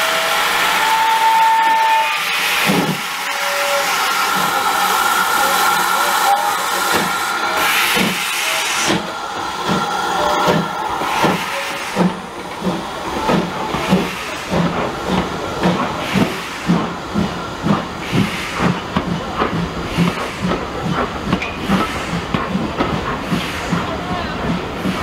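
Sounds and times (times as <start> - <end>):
steam hissing: 0.0 - 25.0
train coaches rolling with knocks: 0.9 - 25.0.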